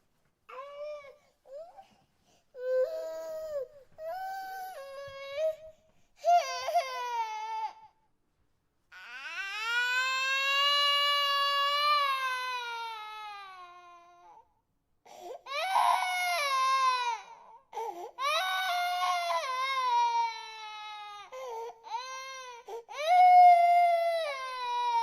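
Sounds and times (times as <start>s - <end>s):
infant crying: 2.6s - 7.9s, 8.9s - 14.4s, 15.1s - 25.0s.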